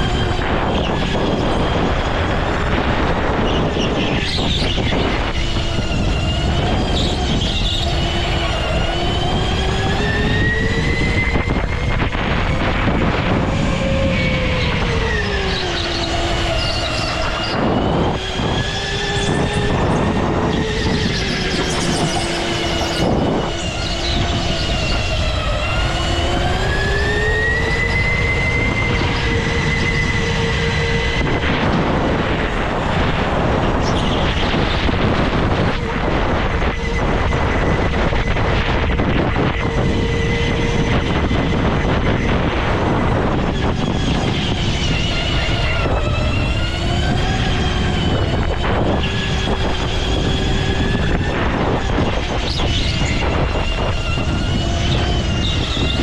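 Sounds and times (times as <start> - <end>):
go-kart motor whine: 0.0 - 56.0
rushing noise: 0.0 - 56.0.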